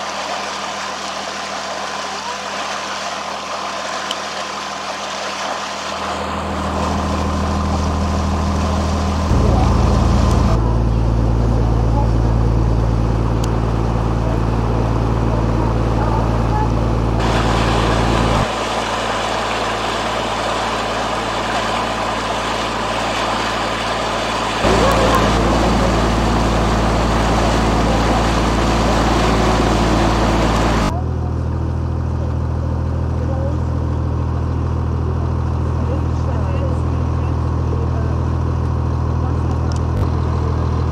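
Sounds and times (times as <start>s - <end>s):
boat engine running: 0.0s - 40.9s
water around hull: 0.0s - 40.9s.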